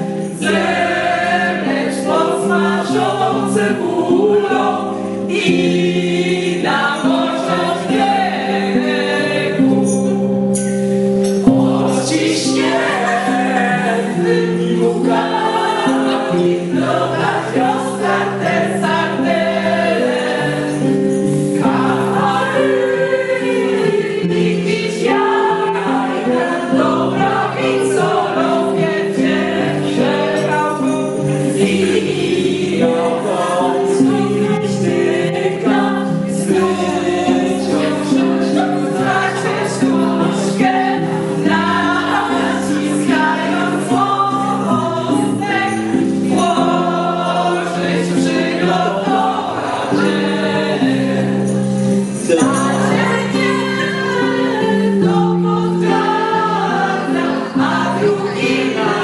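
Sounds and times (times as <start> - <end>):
group singing a carol: 0.0 - 59.0.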